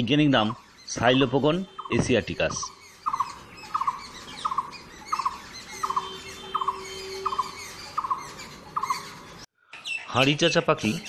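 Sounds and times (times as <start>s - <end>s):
barbet rolling call: 0.4s - 9.4s
faint bird chirps: 0.4s - 11.0s.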